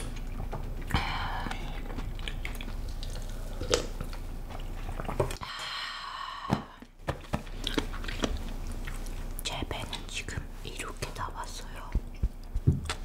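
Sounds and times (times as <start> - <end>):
soft wet chewing: 0.0 - 5.4, 6.8 - 13.0.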